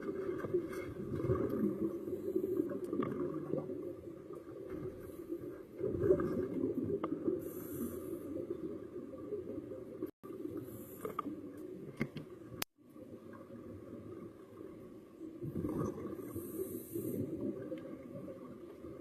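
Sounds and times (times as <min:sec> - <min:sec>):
underwater bubbling rumble: 0:00.0 - 0:19.0.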